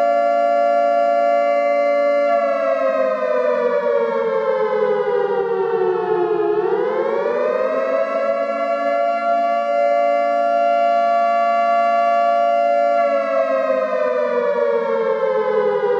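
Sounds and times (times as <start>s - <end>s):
two-tone siren: 0.0s - 15.9s.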